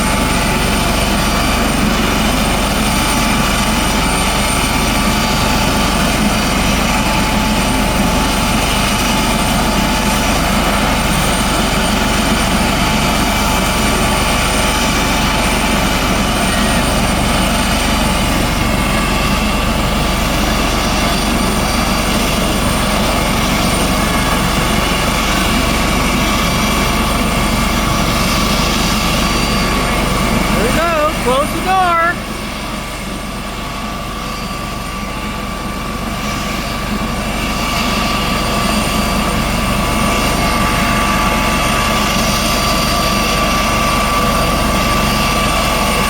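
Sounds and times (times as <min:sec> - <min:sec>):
helicopter rotor noise: 0:00.0 - 0:46.0.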